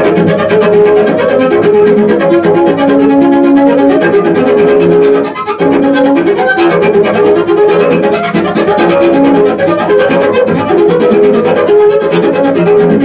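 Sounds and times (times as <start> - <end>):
bowed double bass: 0.0 - 13.0.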